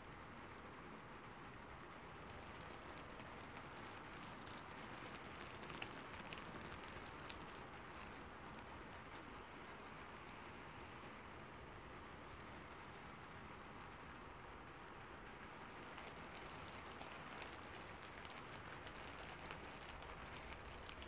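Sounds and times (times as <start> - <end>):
rain pattering on a rooftop: 0.0 - 21.0.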